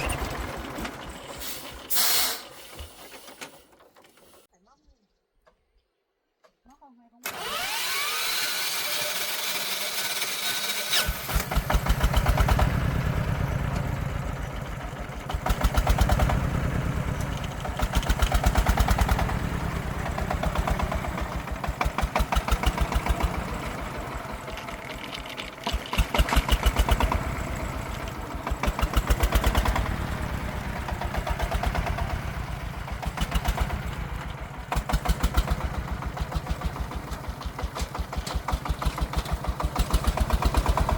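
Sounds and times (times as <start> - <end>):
diesel engine chugging: 0.0 - 3.7, 11.0 - 40.9.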